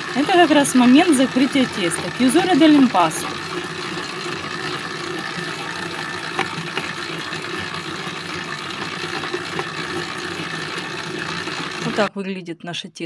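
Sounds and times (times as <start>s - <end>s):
stand mixer running: 0.0s - 12.1s.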